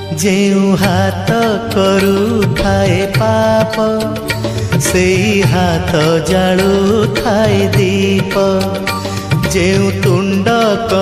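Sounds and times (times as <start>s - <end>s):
percussion strokes: 0.0s - 11.0s.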